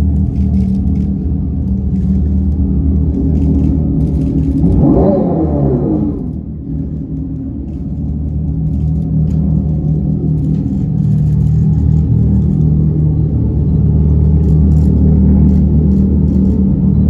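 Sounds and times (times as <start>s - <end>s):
synthesized exhaust rumble: 0.0s - 17.0s.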